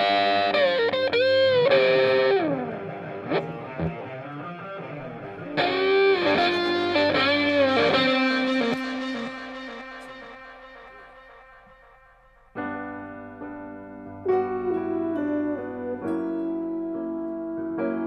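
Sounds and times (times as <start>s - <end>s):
electric guitar with bending notes: 0.0s - 18.0s.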